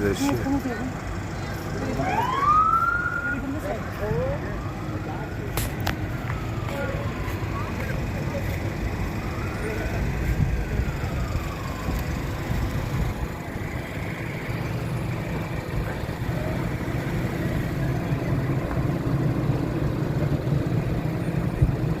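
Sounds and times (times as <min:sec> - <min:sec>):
road traffic: 0:00.0 - 0:22.0
vehicle engine idling: 0:00.0 - 0:22.0.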